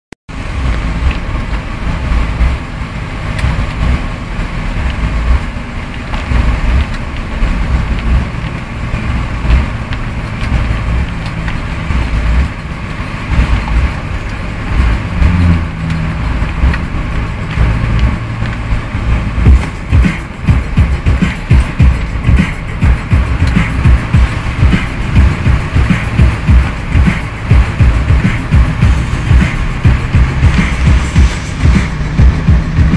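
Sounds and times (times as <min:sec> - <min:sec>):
vehicle engine running: 0:00.3 - 0:32.9
water rushing and splashing: 0:00.3 - 0:32.9.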